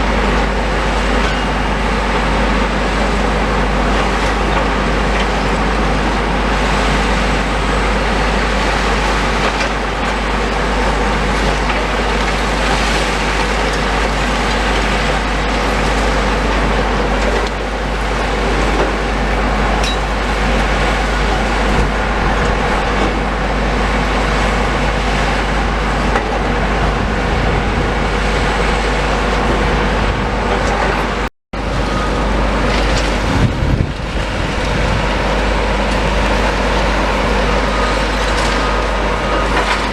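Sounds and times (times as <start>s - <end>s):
heavy machinery diesel engines running: 0.0s - 39.9s.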